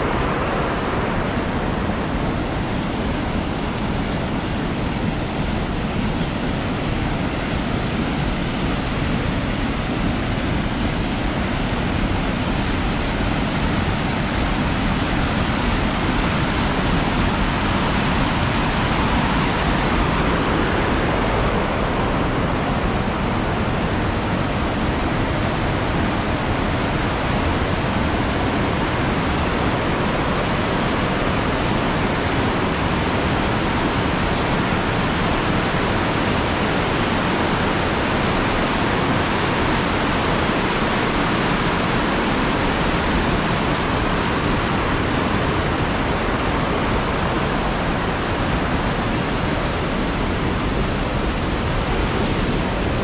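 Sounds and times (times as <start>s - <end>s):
river water rushing over weirs: 0.0s - 53.0s.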